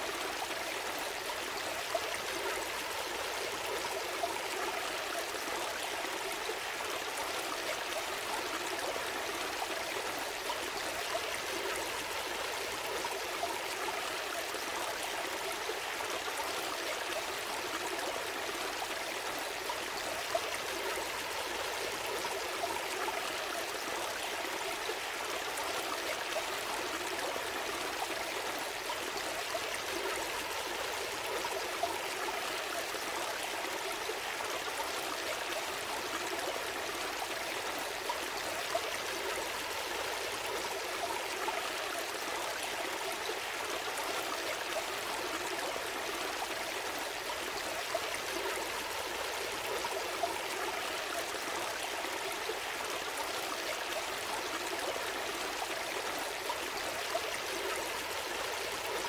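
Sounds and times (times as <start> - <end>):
stream burbling over stones: 0.0 - 59.0.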